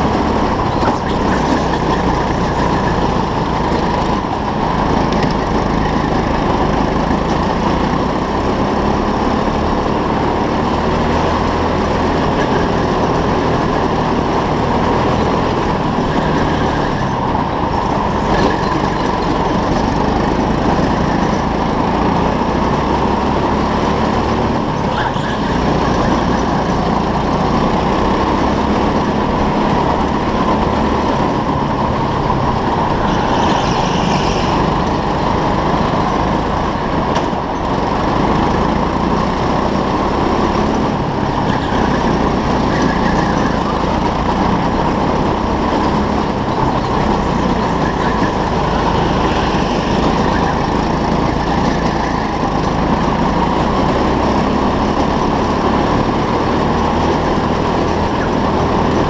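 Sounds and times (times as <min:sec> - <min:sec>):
go-kart motor: 0:00.0 - 0:59.0
rushing noise: 0:00.0 - 0:59.0.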